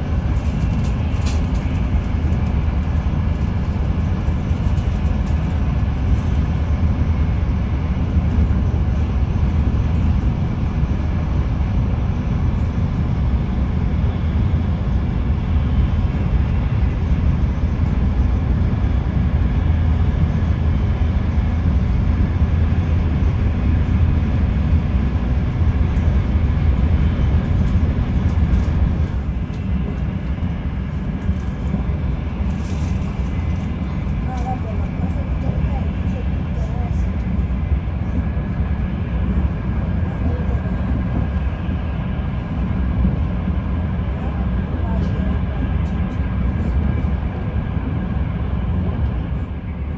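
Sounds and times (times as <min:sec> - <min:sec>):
train rumble inside coach: 0:00.0 - 0:49.9.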